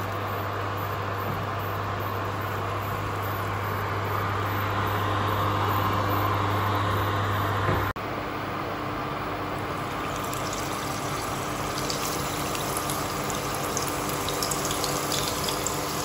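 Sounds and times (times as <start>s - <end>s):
cooling fan whirring: 0.0s - 16.0s
low electrical hum: 0.0s - 16.0s.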